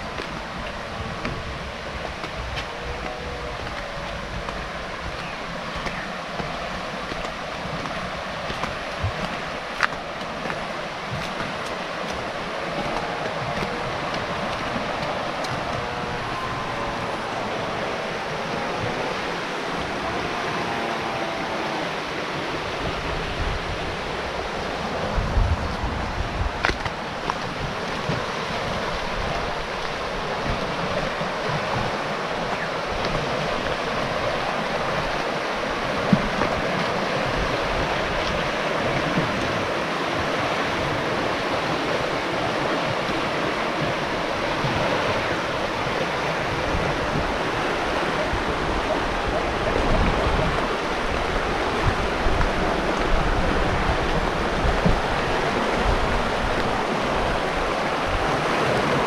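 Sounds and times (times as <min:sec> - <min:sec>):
river flowing: 0:00.0 - 0:59.0.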